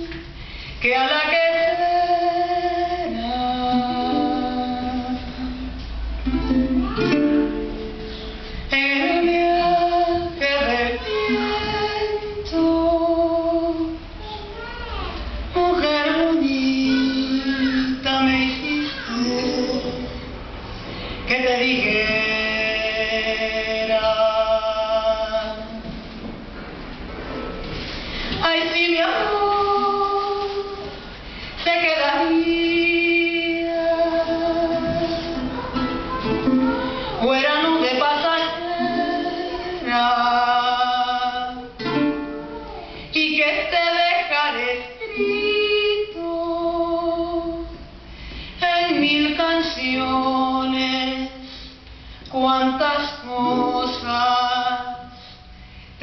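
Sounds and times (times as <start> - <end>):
woman singing: 0.0 - 8.0, 8.6 - 14.1, 15.5 - 20.3, 21.2 - 25.9, 28.3 - 47.9, 48.6 - 55.3.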